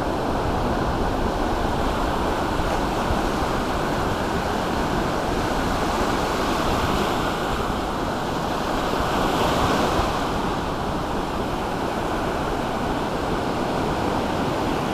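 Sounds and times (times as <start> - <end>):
waves breaking: 0.0 - 14.9.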